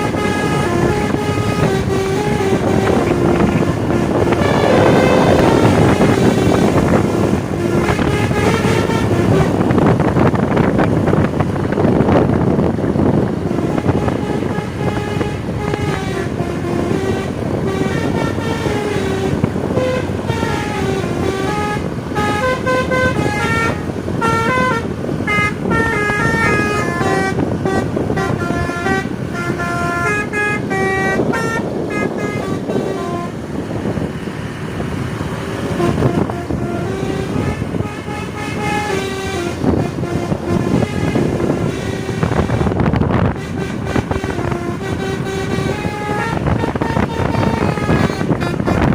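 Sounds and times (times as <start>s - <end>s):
multi-tone bus horn tune: 0.0s - 48.9s.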